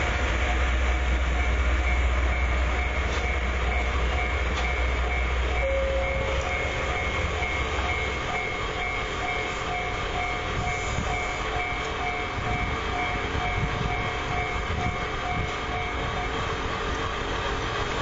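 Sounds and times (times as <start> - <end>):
diesel locomotive rumble: 0.0 - 18.0
level-crossing warning bell: 0.0 - 18.0.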